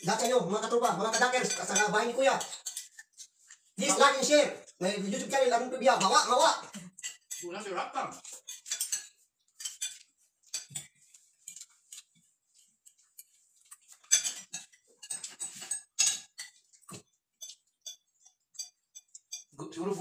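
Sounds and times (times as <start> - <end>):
cutlery clinking on plates: 0.0 - 20.0.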